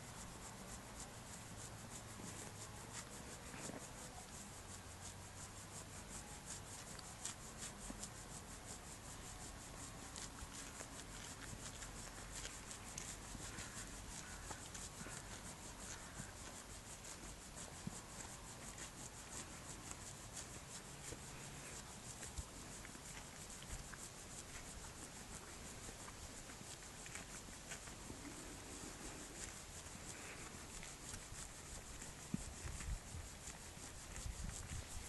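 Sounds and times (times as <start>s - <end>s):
hand scratching pony's coat: 0.0s - 35.0s.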